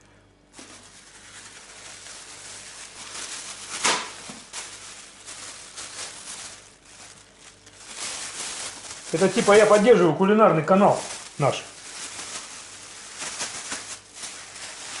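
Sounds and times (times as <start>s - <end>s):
plastic bag rustling: 0.5s - 15.0s.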